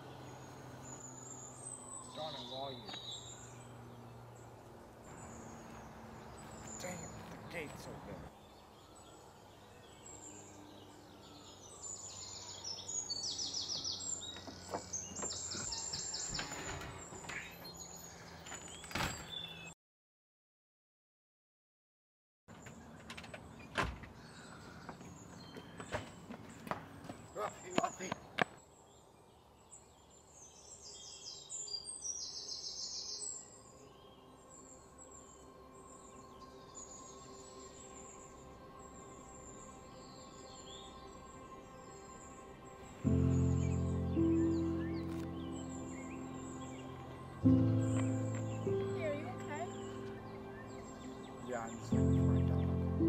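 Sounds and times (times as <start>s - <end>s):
faint outdoor background noise: 0.0s - 19.8s, 22.5s - 53.0s
songbird chirping: 0.0s - 19.8s, 22.5s - 53.0s.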